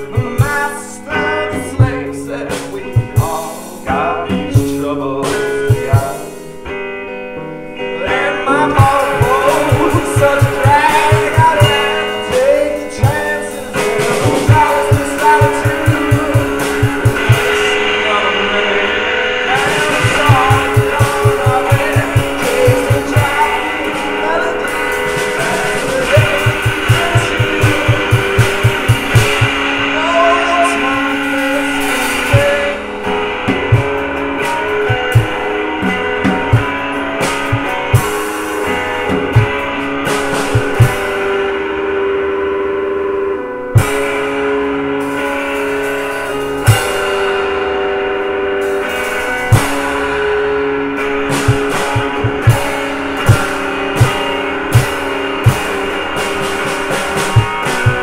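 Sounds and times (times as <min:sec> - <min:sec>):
drum hits and cymbals: 0:00.0 - 0:06.8, 0:08.2 - 0:42.6, 0:43.3 - 0:58.0
held guitar notes: 0:00.0 - 0:58.0.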